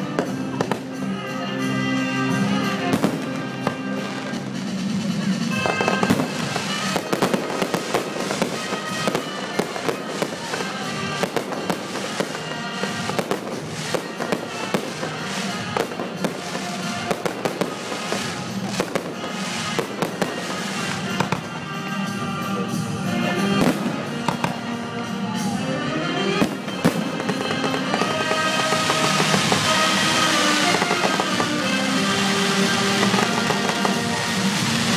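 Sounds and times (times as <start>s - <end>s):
fireworks bangs and crackling: 0.0s - 34.9s
music playing: 0.0s - 34.9s.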